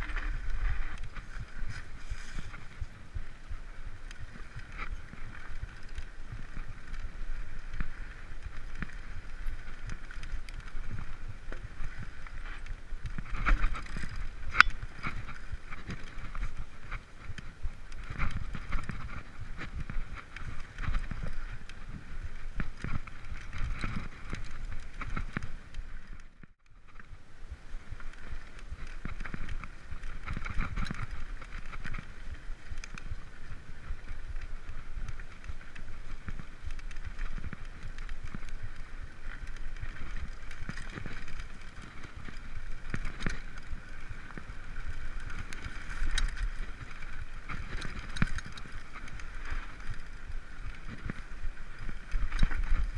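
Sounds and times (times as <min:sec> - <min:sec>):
bike rattling and clicking: 0:00.0 - 0:52.9
bike tyre rushing on trail: 0:00.0 - 0:52.9.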